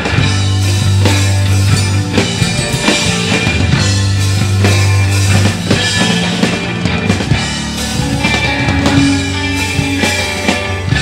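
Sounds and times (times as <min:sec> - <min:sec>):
bass guitar low note: 0:00.0 - 0:11.0
psychedelic rock band playing: 0:00.0 - 0:11.0.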